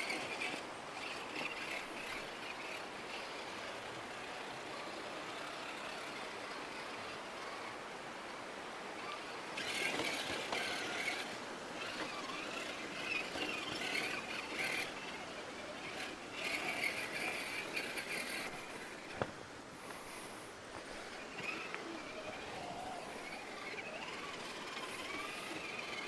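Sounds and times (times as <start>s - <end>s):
toy car motor whining: 0.0s - 8.0s, 8.6s - 20.1s, 20.8s - 26.0s.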